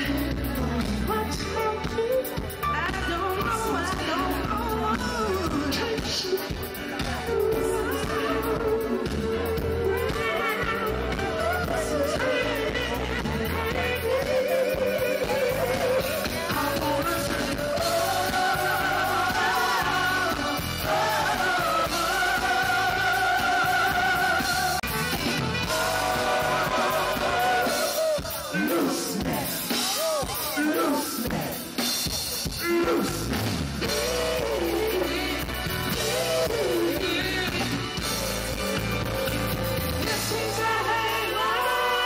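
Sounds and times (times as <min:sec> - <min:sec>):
bass and drum rhythm: 0:00.0 - 0:42.0
voices singing with vibrato: 0:00.0 - 0:42.0.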